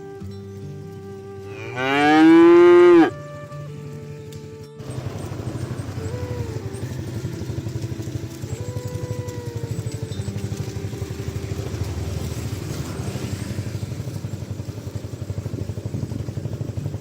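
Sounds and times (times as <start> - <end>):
small engine running: 0.2 - 17.0.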